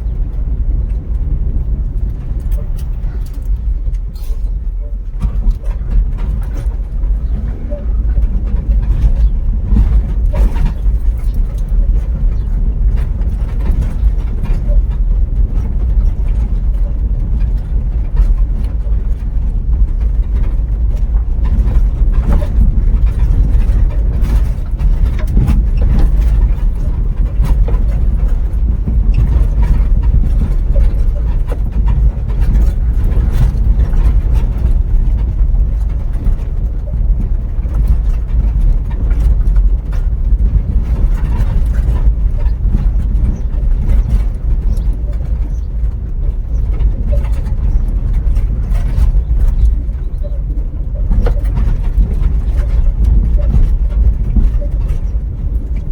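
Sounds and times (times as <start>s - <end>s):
vehicle rumble on road: 0.0s - 55.9s.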